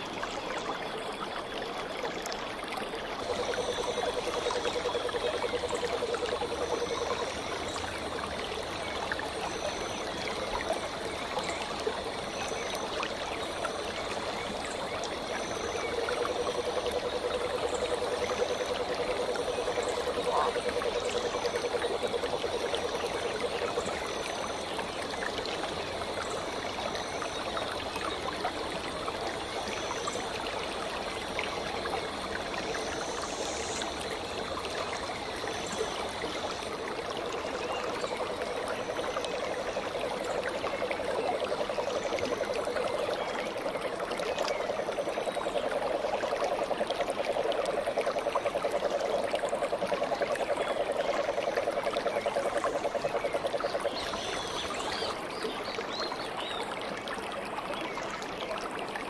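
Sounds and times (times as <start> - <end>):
running water flowing: 0.0 - 59.0.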